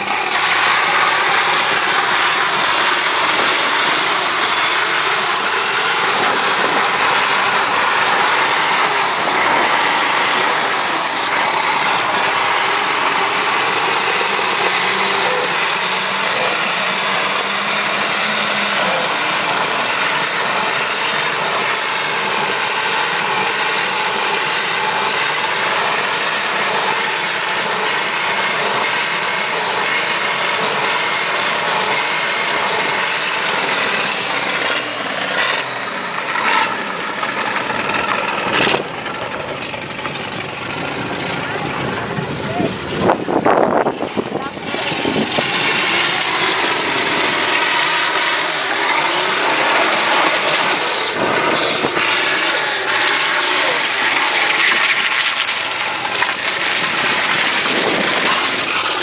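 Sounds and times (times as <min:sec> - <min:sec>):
car engine at high revs: 0:00.0 - 0:59.0
tyres spinning in burnout: 0:00.0 - 0:59.0.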